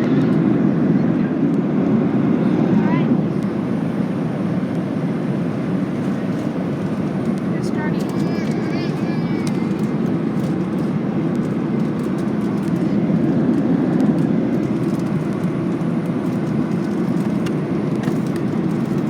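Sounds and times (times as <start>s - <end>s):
airplane cabin engine rush: 0.0s - 19.0s.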